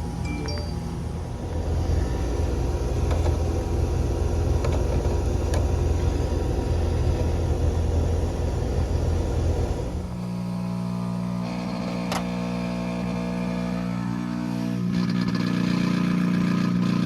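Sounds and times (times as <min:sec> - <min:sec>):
heat pump humming: 0:00.0 - 0:15.0.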